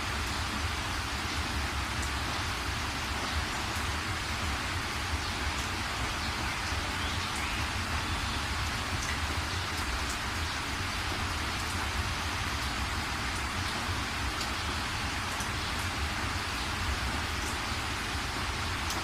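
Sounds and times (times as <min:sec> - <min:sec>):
steady rain patter: 0:00.0 - 0:19.0.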